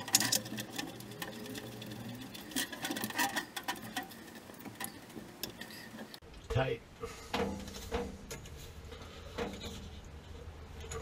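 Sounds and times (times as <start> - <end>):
hands working metal pipe fittings: 0.0 - 6.2, 7.1 - 11.0.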